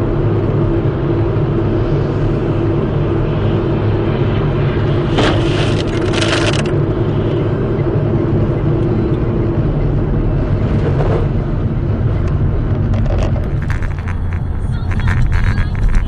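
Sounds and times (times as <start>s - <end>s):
engine and tyre drone: 0.0s - 16.0s.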